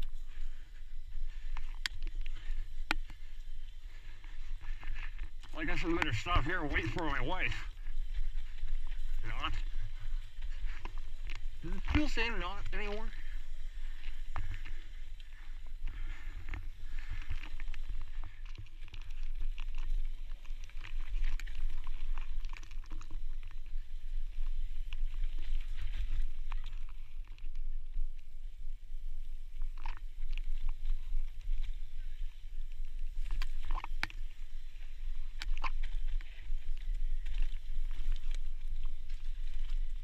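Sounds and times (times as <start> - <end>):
bike tyres crunching over dirt: 0.0 - 40.0
wind rumble on microphone: 0.0 - 40.0.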